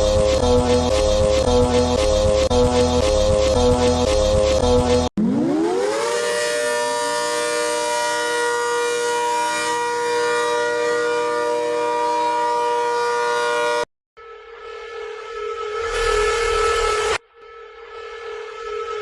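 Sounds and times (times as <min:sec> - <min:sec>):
emergency alert siren: 0:00.0 - 0:19.0.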